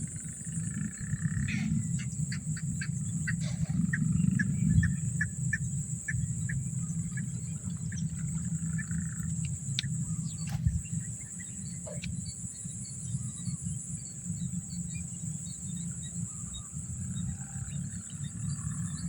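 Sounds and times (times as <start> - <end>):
low irregular rumble: 0.0 - 18.7
high insect drone: 0.0 - 19.0.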